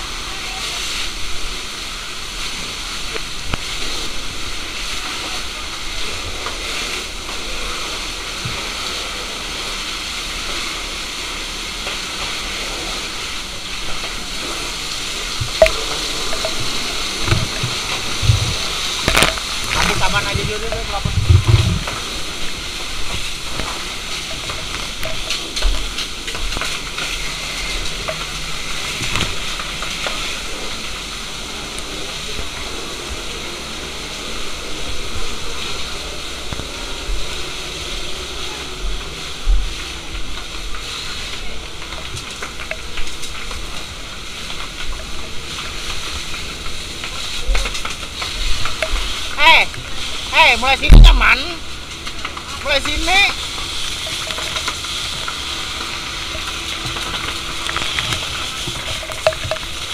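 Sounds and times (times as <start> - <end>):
fire hose spraying: 0.0 - 59.9
water sizzling on burning material: 0.0 - 59.9.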